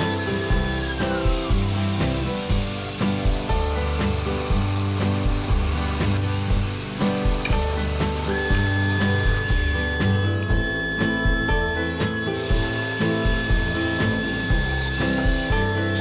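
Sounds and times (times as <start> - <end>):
background music with steady beat: 0.0 - 16.0
electric chainsaw cutting wood: 0.0 - 16.0.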